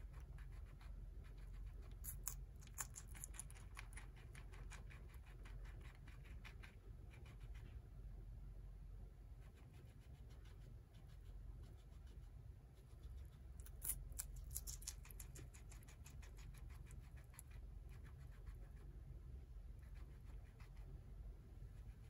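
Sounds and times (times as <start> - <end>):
guinea pig chewing lettuce: 0.0 - 8.1, 9.2 - 22.0.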